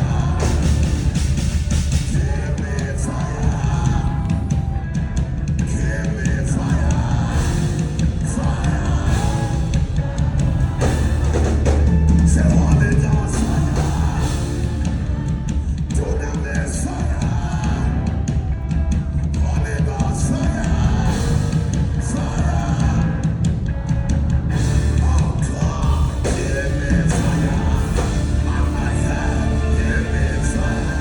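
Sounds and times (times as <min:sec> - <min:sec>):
heavy bass and drums: 0:00.0 - 0:31.0
loud music with singing: 0:00.0 - 0:31.0.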